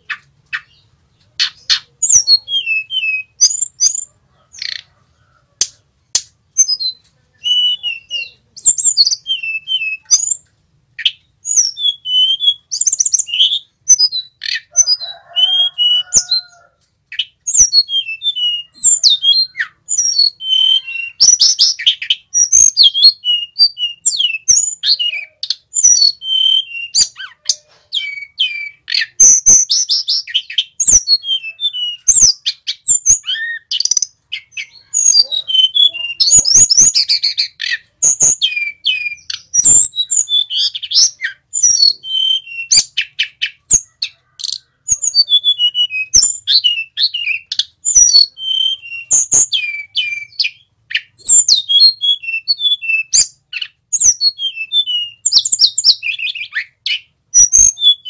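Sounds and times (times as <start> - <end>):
bird whistling and twittering: 0.0 - 5.0, 6.1 - 58.0.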